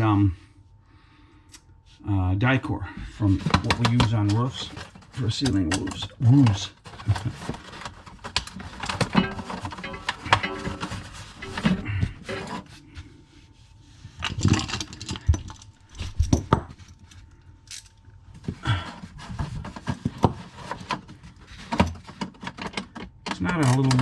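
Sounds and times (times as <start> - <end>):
tools and parts handling noises: 3.3 - 13.1, 14.0 - 24.0.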